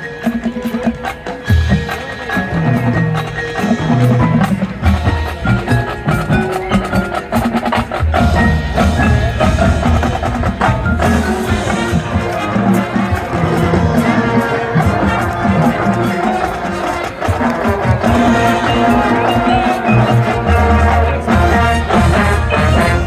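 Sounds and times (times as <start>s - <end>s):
mallet percussion: 0.0s - 23.0s
marching band playing: 0.0s - 23.0s
drum strikes: 0.4s - 23.0s.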